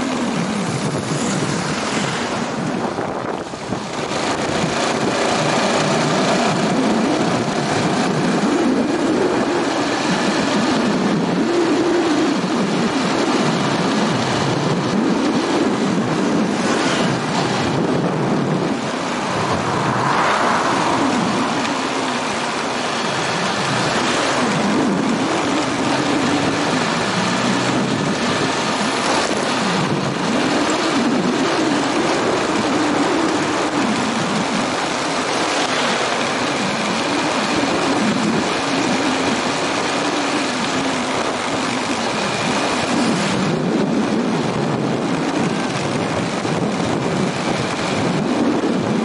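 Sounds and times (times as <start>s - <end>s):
wind on microphone: 0.0s - 49.0s
motorbike engine revving: 0.1s - 49.0s.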